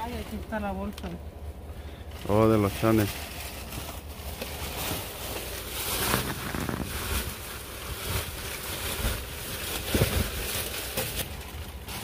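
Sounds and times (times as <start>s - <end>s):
steady low rumble: 0.0s - 12.0s
plastic bag rustling: 2.2s - 12.0s.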